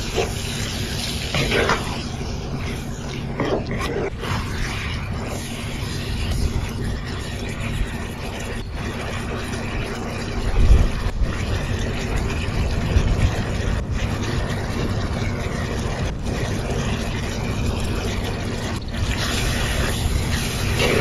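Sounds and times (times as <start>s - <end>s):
sauce bubbling and sizzling: 0.0s - 21.0s.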